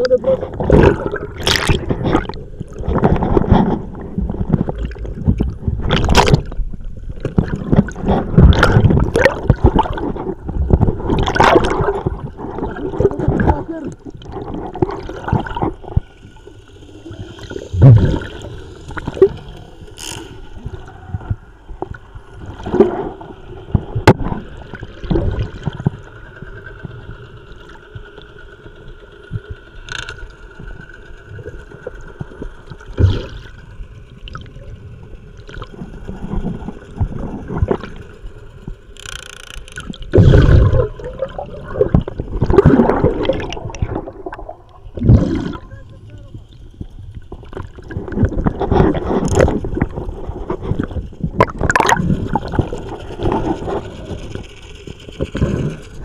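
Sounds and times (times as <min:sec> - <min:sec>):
faint steady hum: 0:00.0 - 0:56.0
thumps and swishes through water: 0:00.0 - 0:56.0
underwater water gurgling and rushing: 0:00.0 - 0:56.0.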